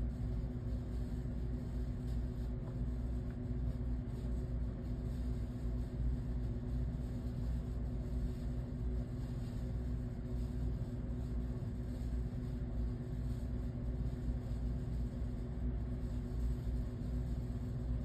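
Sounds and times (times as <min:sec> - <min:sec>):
low machine rumble and hum: 0:00.0 - 0:18.0.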